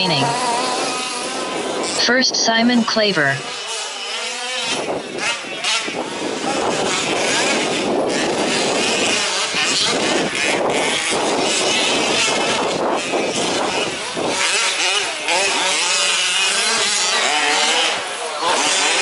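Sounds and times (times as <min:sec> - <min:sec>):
small two-stroke engines revving: 0:00.0 - 0:19.0.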